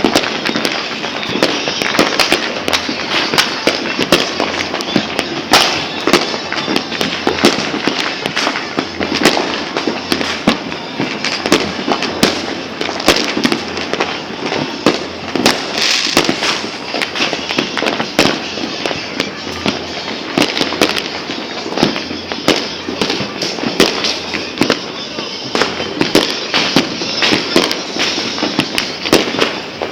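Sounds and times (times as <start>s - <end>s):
fireworks and firecrackers banging: 0.0s - 29.9s.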